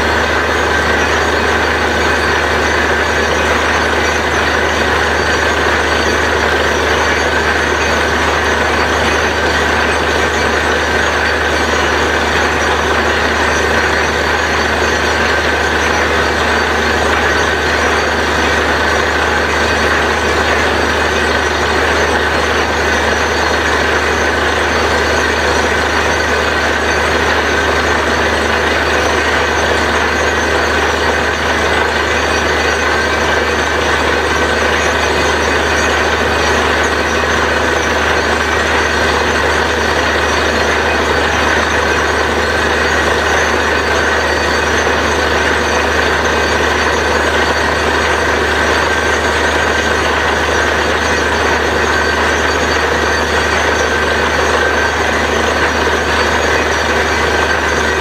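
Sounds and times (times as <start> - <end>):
drilling rig engine drone: 0.0 - 58.0.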